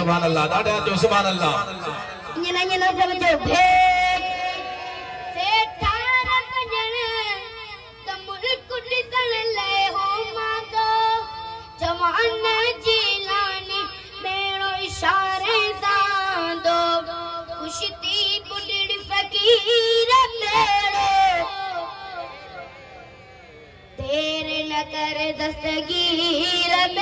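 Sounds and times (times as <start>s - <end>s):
boy singing devotional song: 2.3s - 22.6s, 24.0s - 27.0s.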